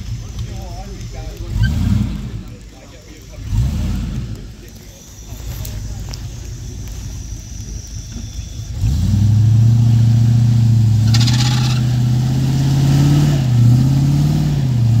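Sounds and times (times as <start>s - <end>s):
car driving through mud: 0.0s - 15.0s
car engine revving: 0.0s - 15.0s.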